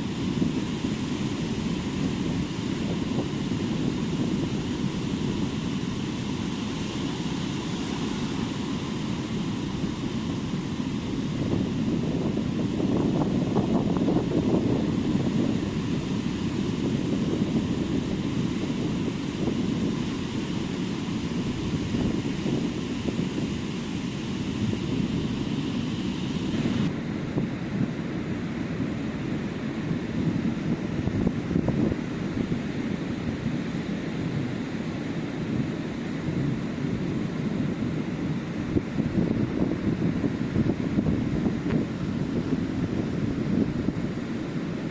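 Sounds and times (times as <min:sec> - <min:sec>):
ocean surf on beach: 0:00.0 - 0:44.9
wind on microphone: 0:00.0 - 0:44.9.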